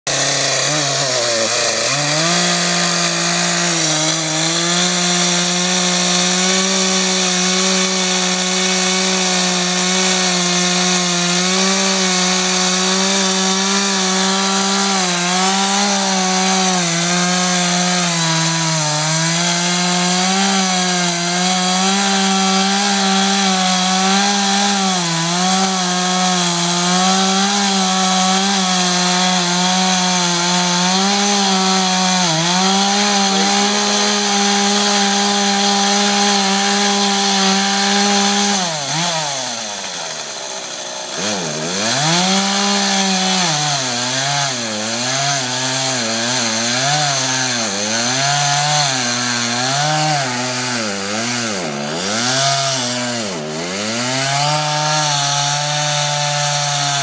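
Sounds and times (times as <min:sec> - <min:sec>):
chainsaw cutting tree trunk: 0:00.0 - 0:57.0.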